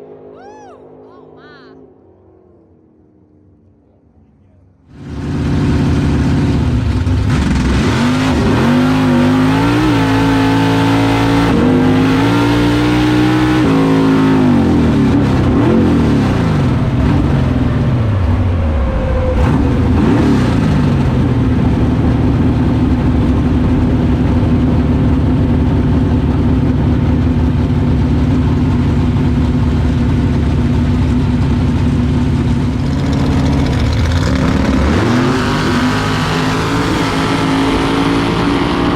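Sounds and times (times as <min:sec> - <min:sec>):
race car engine running hard: 0:04.8 - 0:38.9.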